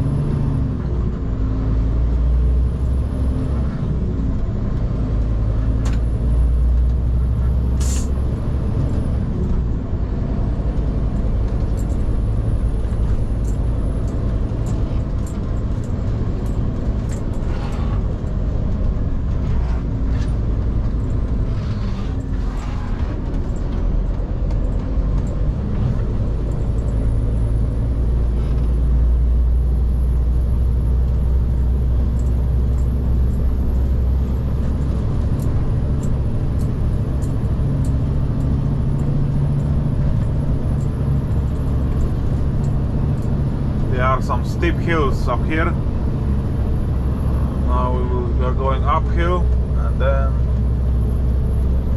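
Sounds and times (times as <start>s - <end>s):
truck diesel engine droning: 0.0s - 51.9s.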